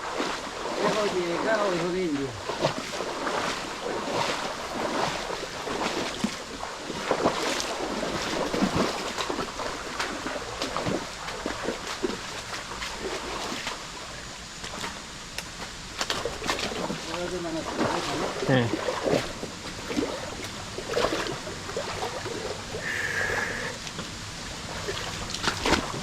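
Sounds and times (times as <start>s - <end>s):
small splashes and knocks: 0.0s - 13.9s, 14.6s - 22.6s, 23.8s - 26.0s
stream water running: 0.0s - 26.0s.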